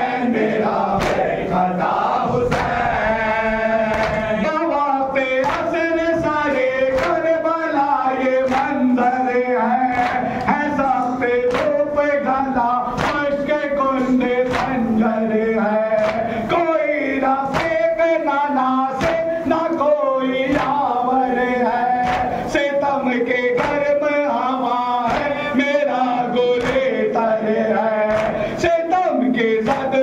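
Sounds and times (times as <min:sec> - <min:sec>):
man reciting into microphone: 0:00.0 - 0:30.0
men chanting together: 0:00.0 - 0:30.0.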